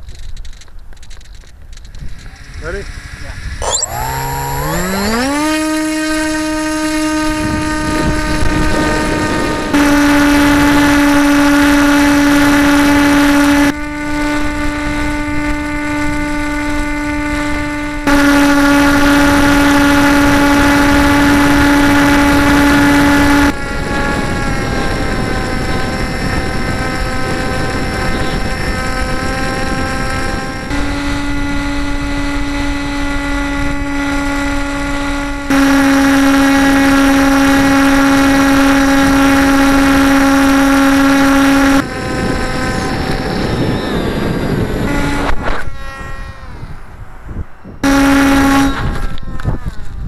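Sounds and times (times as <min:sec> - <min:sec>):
electric motor and propeller whine: 0:00.3 - 0:50.0.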